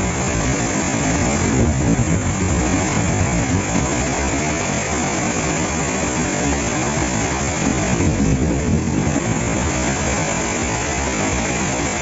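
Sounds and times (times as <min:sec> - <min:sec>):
waterfall rushing onto rock: 0:00.0 - 0:12.0.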